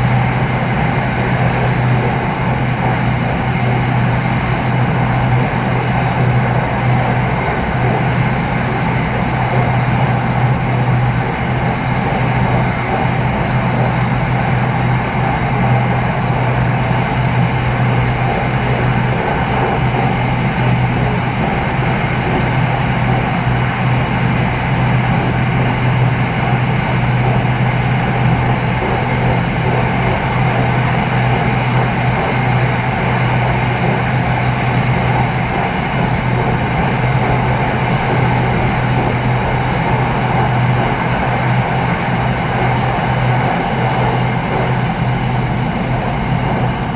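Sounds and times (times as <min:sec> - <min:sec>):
steady low hum: 0:00.0 - 0:46.9
train rolling noise inside carriage: 0:00.0 - 0:46.9.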